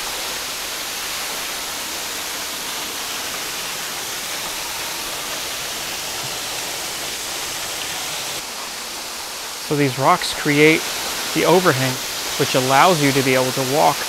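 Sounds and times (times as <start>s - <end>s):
waterfall splashing onto rocks: 0.0s - 14.0s.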